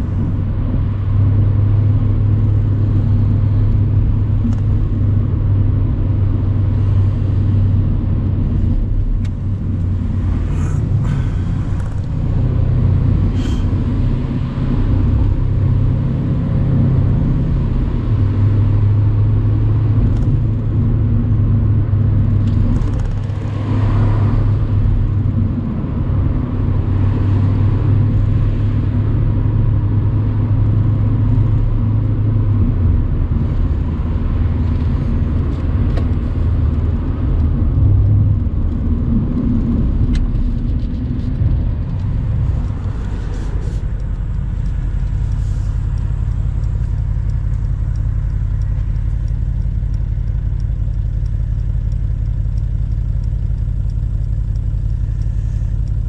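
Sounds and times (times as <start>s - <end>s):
car engine cruising: 0.0s - 56.0s
road and wind noise: 0.0s - 56.0s.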